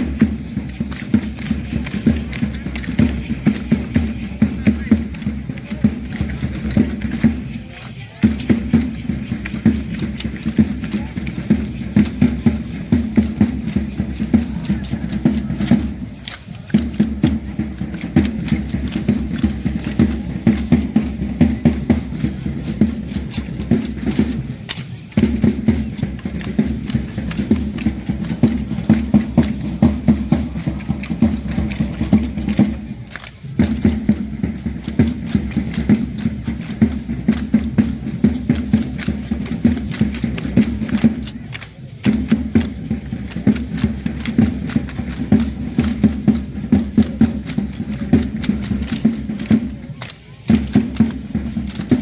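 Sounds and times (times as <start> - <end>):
dancers stamping feet: 0.0 - 52.0
rattles shaking: 0.0 - 52.0.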